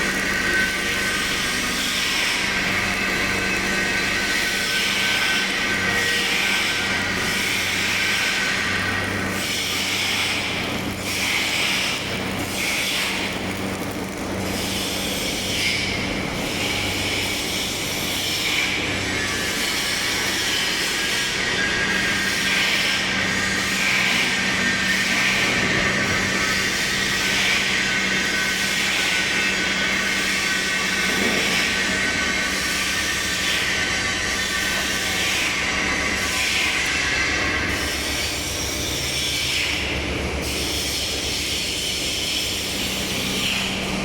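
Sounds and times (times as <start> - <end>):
welding machine hissing: 0.0 - 44.0.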